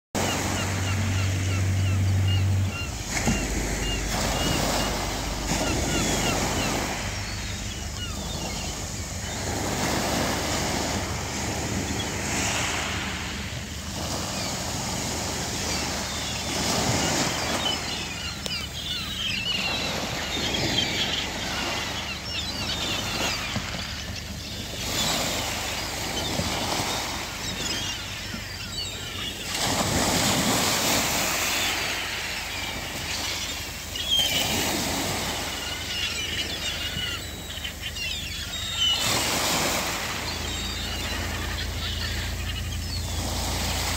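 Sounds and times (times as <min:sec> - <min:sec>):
gulls calling: 0:00.2 - 0:43.9
small waves breaking: 0:00.2 - 0:43.9.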